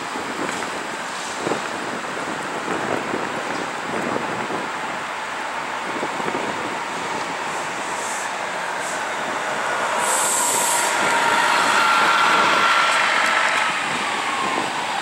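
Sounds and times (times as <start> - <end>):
streetcar rolling on rails: 0.0 - 15.0.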